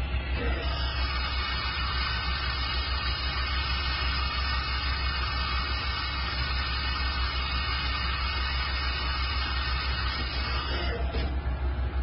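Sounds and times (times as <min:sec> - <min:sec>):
machining center whirring: 0:00.0 - 0:12.0.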